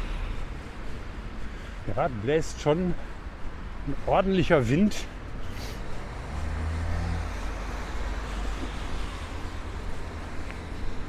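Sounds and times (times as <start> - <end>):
car passing: 0.0 - 11.0
steady traffic noise: 0.0 - 11.0.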